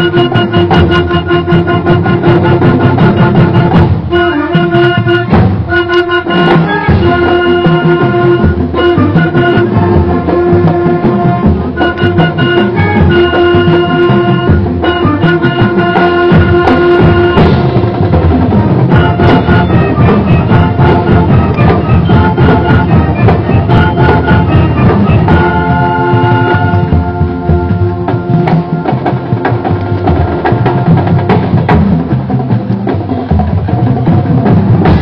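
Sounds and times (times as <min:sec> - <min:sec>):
brass and wind instruments: 0:00.0 - 0:35.0
steady drum beat: 0:00.0 - 0:35.0.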